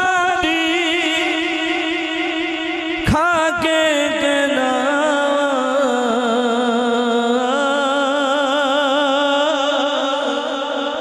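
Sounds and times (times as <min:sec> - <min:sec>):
man singing into a microphone: 0:00.0 - 0:11.0.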